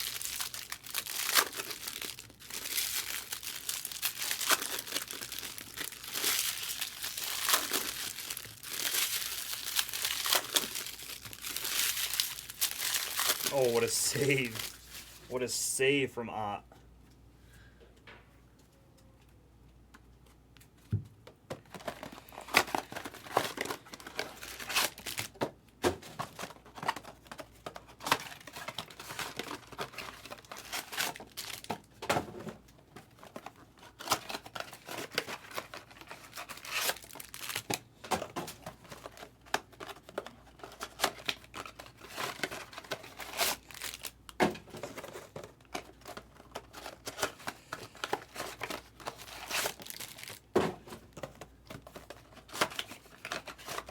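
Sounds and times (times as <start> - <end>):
wrappers tearing and crinkling: 0.0 - 15.3, 21.7 - 25.4, 26.2 - 32.0, 33.0 - 53.9.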